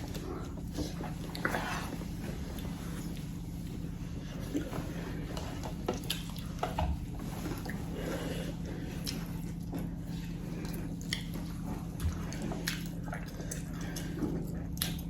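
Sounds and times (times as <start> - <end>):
chewing and lip smacks: 0.0 - 8.0, 8.6 - 15.0
steady low hum: 0.0 - 15.0.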